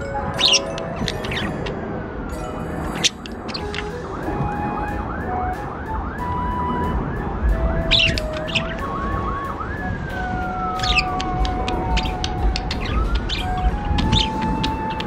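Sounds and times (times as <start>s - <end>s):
emergency siren yelping and wailing: 0.0s - 15.0s.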